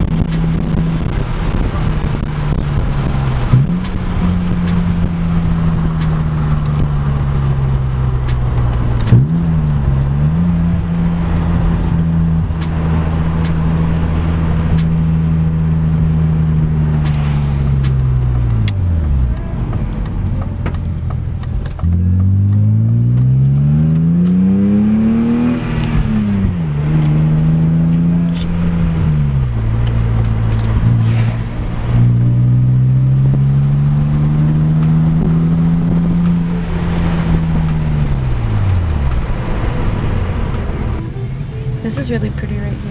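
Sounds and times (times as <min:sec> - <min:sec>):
car engine revving through exhaust: 0:00.0 - 0:42.9.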